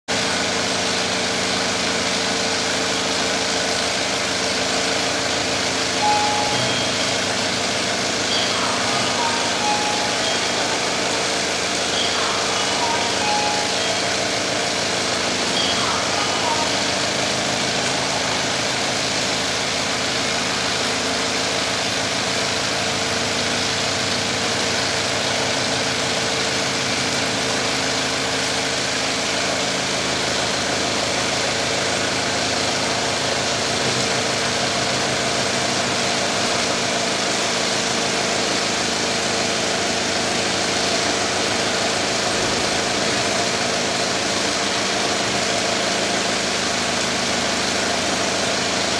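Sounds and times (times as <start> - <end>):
sewing machine whirring: 0.2 - 48.9.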